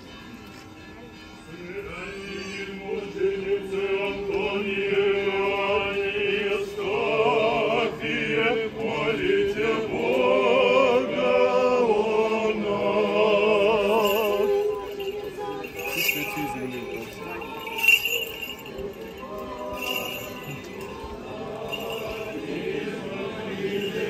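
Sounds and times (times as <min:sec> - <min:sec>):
clergy chanting a hymn: 0:01.5 - 0:24.0.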